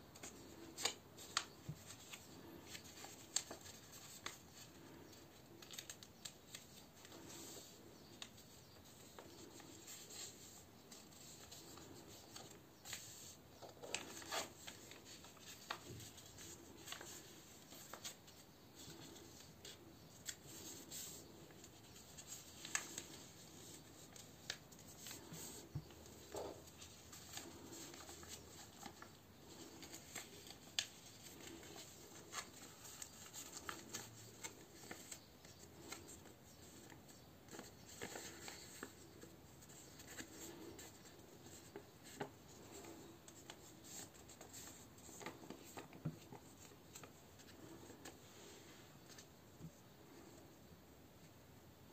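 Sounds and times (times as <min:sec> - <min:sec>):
paper crackles and ticks: 0:00.1 - 0:10.4, 0:11.2 - 0:48.2
paper being folded: 0:00.1 - 0:49.3.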